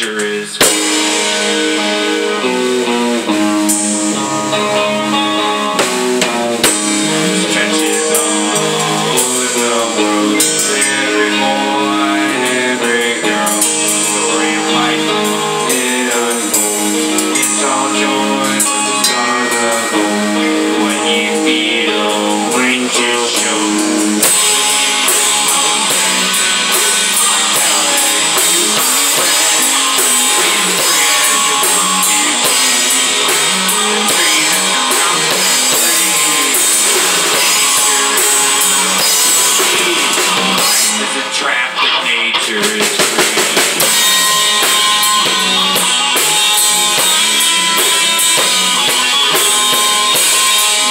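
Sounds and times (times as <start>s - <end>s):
drum kit: 0.0s - 50.9s
guitar: 0.0s - 50.9s
rock band music: 0.0s - 50.9s.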